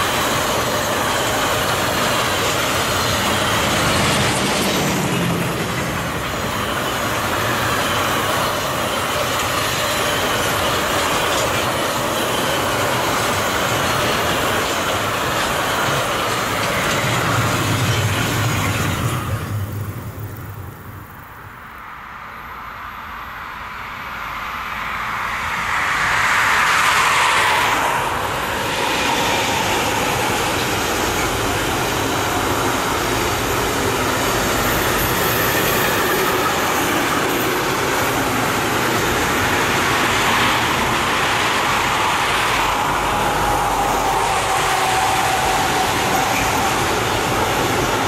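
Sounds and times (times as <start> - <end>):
electric locomotive whine passing: 0.0 - 48.0
motorway traffic: 0.0 - 48.0.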